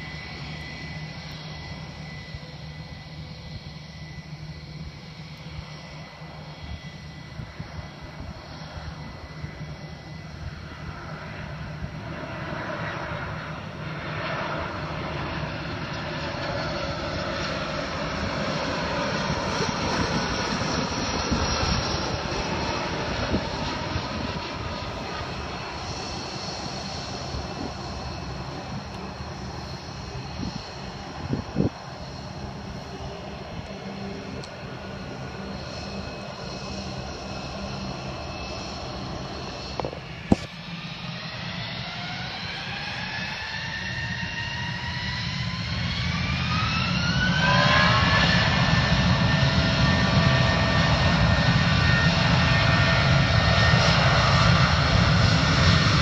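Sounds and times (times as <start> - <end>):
jet airliner engine noise: 0.0 - 56.0
steady high whine: 0.0 - 56.0.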